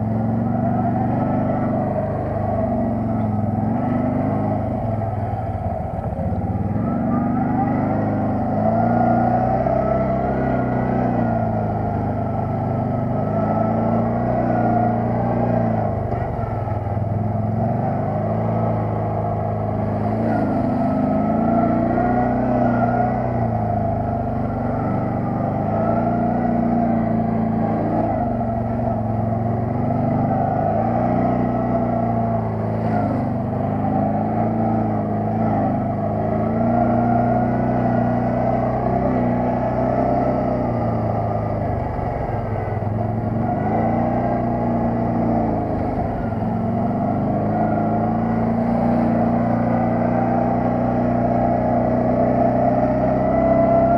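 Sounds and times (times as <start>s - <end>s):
quad bike engine revving: 0.0s - 53.9s.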